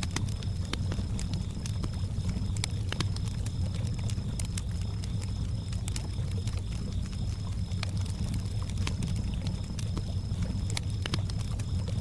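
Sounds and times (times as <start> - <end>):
campfire crackling: 0.0 - 12.0
crickets chirping: 0.1 - 12.0.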